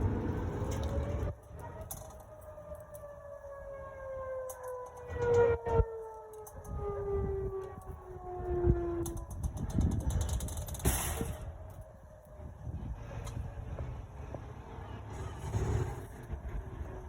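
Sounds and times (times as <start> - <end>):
tornado warning siren wailing: 0.0 - 14.8.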